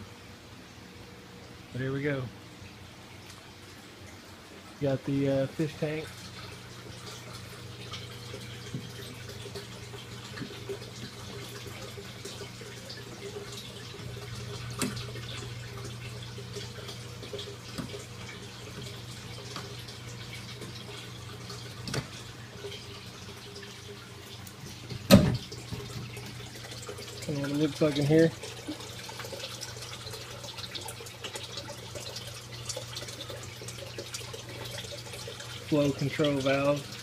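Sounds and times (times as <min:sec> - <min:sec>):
water trickling and splashing: 0:00.3 - 0:37.0.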